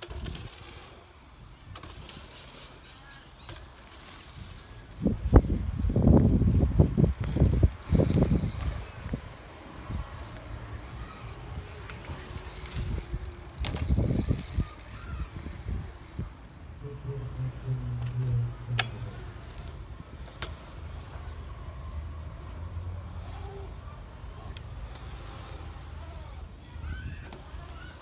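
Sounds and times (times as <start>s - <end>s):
bike tyres rumbling on concrete: 0.0s - 28.0s.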